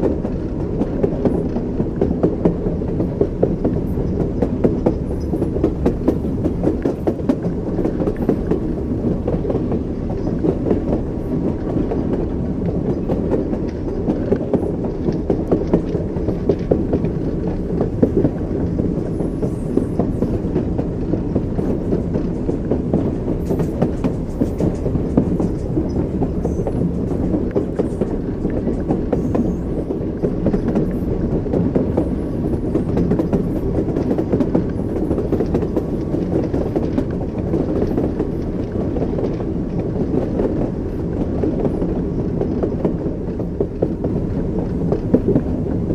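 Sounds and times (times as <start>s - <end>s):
continuous low rumble: 0.0s - 45.9s
train wheels clickety-clack: 0.0s - 45.9s.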